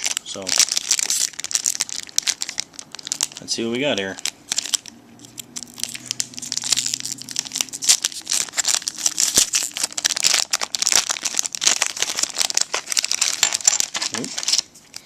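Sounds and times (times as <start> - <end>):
wrapper being torn and crinkled: 0.0 - 15.0.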